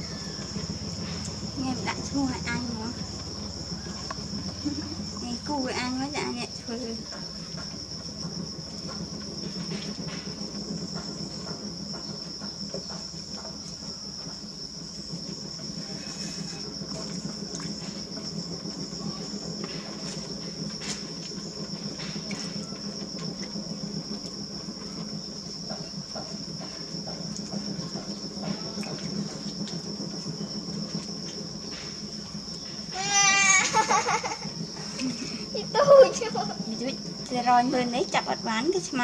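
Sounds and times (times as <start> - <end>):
high-pitched whine: 0.0 - 39.0
potter's wheel humming: 0.0 - 39.0.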